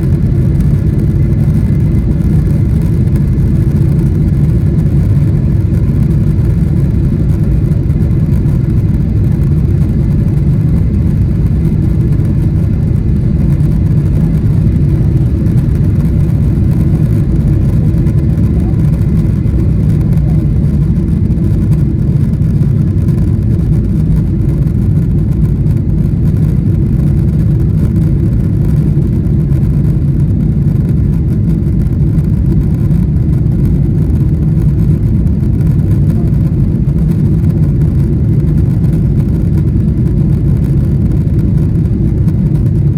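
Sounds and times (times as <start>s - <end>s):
jet engines low rumble: 0.0s - 42.9s.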